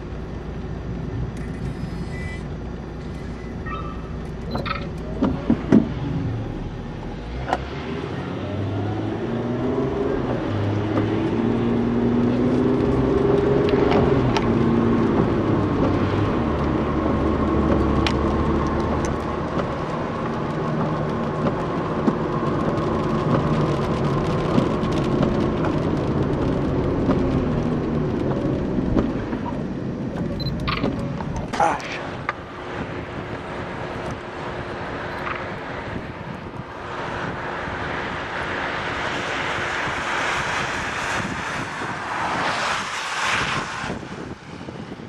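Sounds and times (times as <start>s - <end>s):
car engine while driving: 0.0s - 45.0s
road noise: 0.0s - 45.0s.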